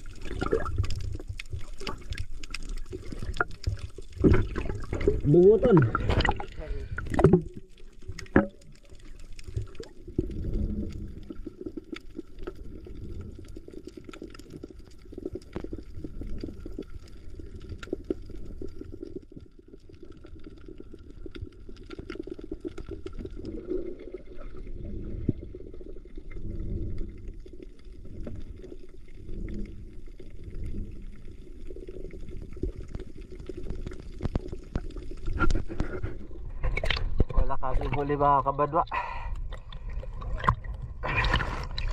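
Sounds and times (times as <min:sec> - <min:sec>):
underwater rumble of moving water: 0:00.0 - 0:41.9.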